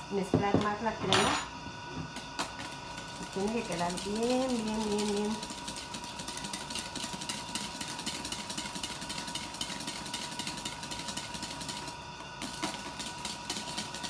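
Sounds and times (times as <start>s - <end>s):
whisk rattling against bowl: 2.5s - 14.0s.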